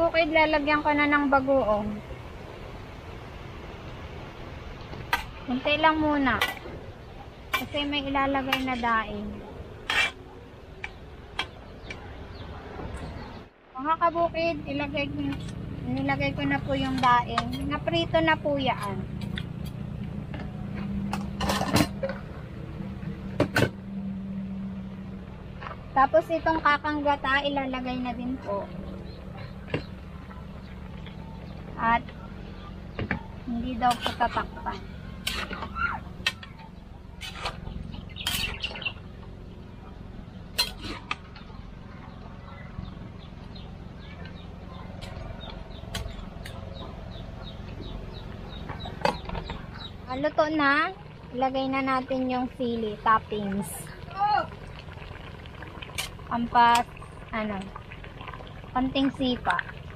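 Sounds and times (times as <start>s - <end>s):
birds chirping: 0.0s - 23.3s, 24.4s - 59.9s
steady low rumble: 0.0s - 59.9s.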